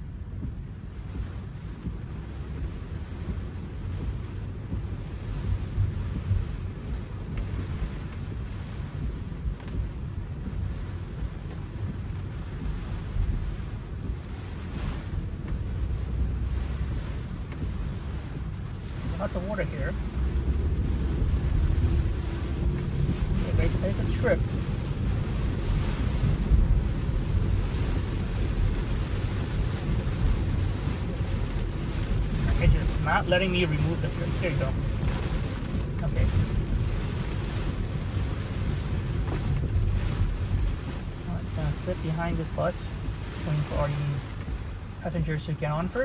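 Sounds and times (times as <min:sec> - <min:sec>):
car road rumble: 0:00.0 - 0:46.0
rain: 0:00.0 - 0:46.0.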